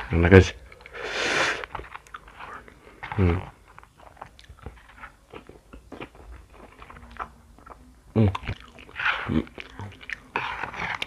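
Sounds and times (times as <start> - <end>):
chewing noodles with crunches: 0.0 - 11.0.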